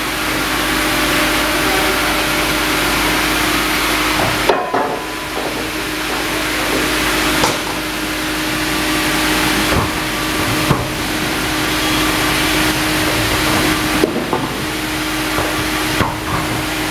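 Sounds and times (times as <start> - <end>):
band saw whirring: 0.0 - 16.9
constant hum: 0.0 - 16.9.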